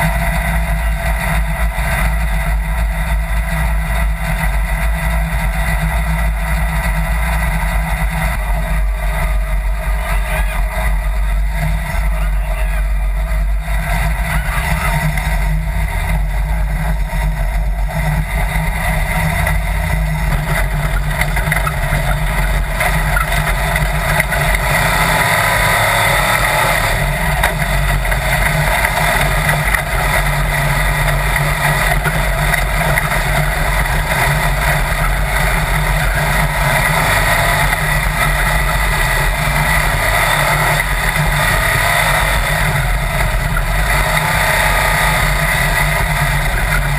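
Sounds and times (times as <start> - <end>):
dune buggy engine running: 0.0 - 46.9.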